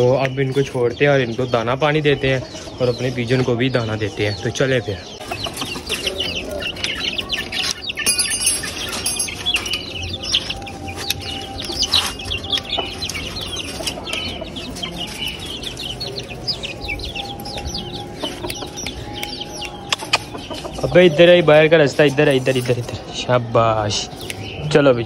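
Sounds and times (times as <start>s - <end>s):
chicks clucking and peeping: 0.0s - 25.0s.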